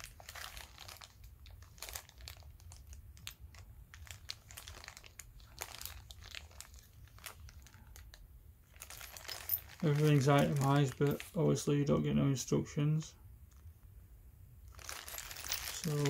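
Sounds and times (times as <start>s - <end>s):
plastic bags crinkling: 0.0s - 11.6s, 14.7s - 16.0s.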